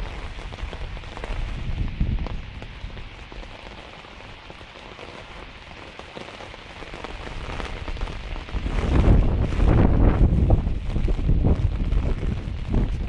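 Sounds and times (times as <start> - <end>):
wind rumble on microphone: 0.0 - 6.0, 6.6 - 13.0
rain on concrete: 0.0 - 13.0.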